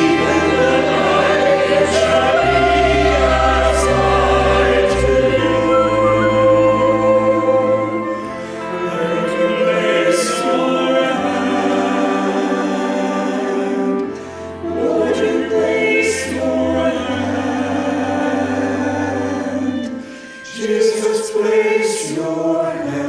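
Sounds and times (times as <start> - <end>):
choir singing slow worship song: 0.0 - 23.0.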